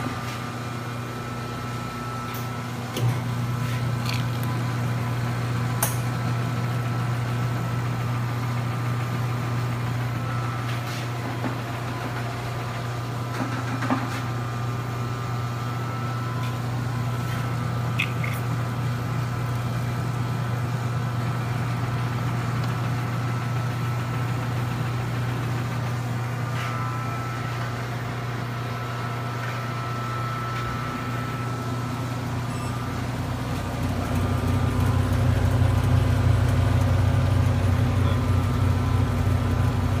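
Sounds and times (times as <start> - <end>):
soft serve machine humming: 0.0 - 40.0.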